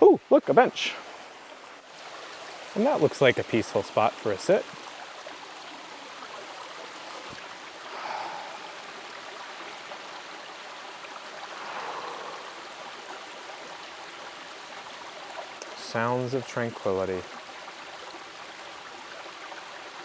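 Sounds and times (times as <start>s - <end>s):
stream trickling over rocks: 0.0s - 20.0s.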